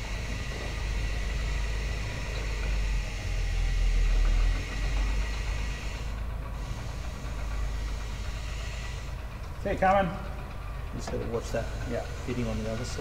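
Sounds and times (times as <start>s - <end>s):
forklift engine running: 0.0s - 13.0s
thin steady whine: 0.0s - 13.0s.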